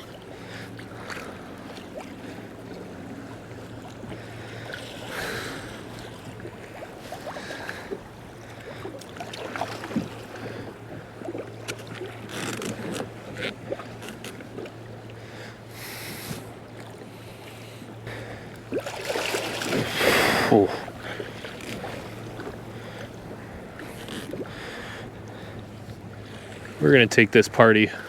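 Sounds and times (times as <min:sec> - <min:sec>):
water slapping against kayak hull: 0:00.0 - 0:26.8
steady low hum: 0:00.0 - 0:28.0.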